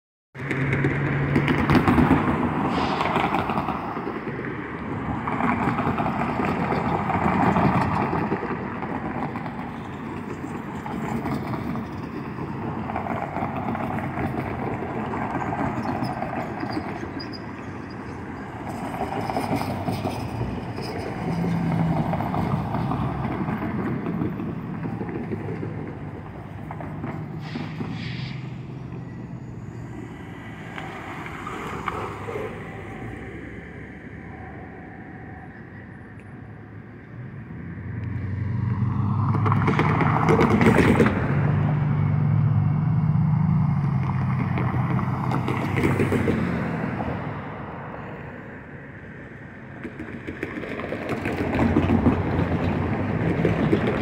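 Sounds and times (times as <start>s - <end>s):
low steady traffic rumble: 0.4s - 54.0s
vehicles passing: 0.4s - 54.0s.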